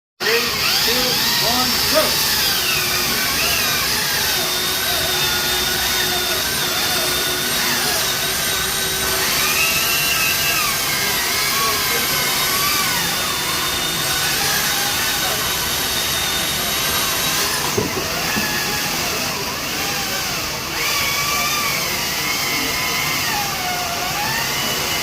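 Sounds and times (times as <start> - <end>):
electric chainsaws whining: 0.2 - 25.0.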